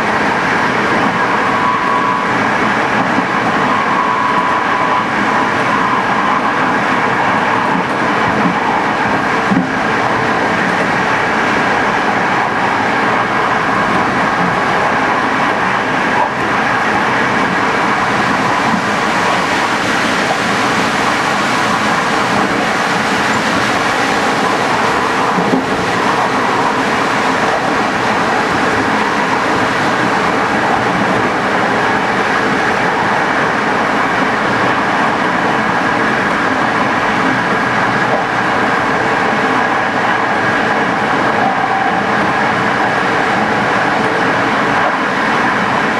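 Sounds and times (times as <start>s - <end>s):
high whine: 0.0s - 45.9s
train rumble and rail noise: 0.0s - 45.9s.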